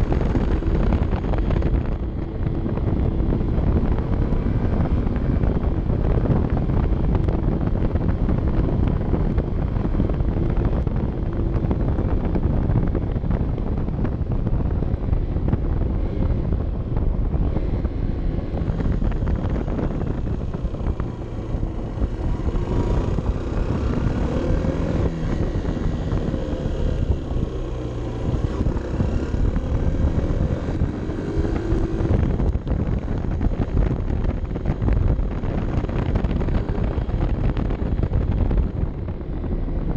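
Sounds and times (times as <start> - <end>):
motorcycle engine running: 0.0 - 39.9
wind buffeting on microphone: 0.0 - 39.9.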